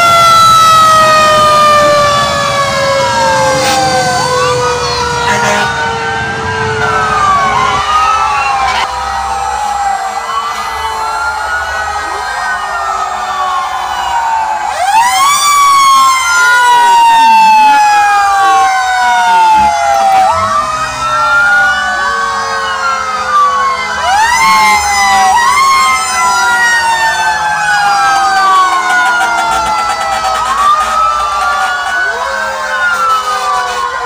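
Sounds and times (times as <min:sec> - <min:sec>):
fire truck sirens wailing: 0:00.0 - 0:34.0.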